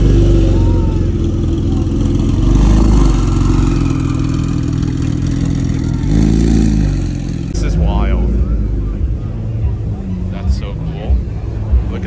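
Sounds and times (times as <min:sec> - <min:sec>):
sports car pulling away: 0:00.0 - 0:10.3.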